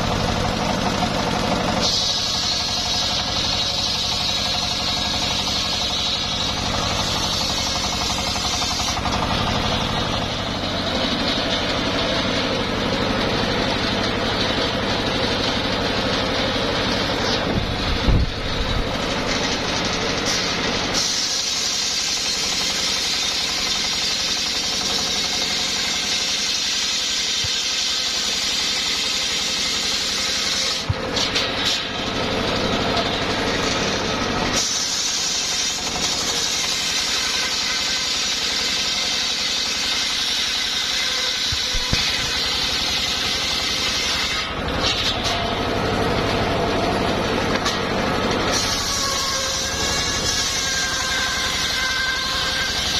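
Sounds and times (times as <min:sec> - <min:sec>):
circular saw cutting log: 0:00.0 - 0:52.9.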